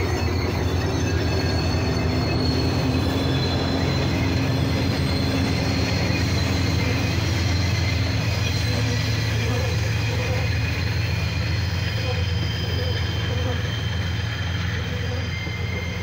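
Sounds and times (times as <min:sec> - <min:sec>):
locomotive engine drone: 0:00.0 - 0:16.0
wheels squealing on rails: 0:00.0 - 0:16.0.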